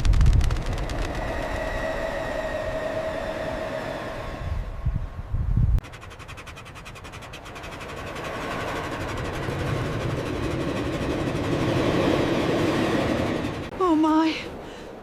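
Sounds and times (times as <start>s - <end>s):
train passing: 0.7s - 6.3s, 7.3s - 14.2s.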